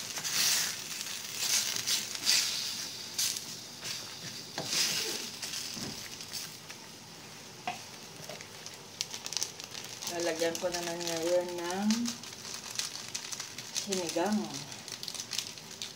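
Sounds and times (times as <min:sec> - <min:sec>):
broth boiling hiss: 0:00.0 - 0:15.9.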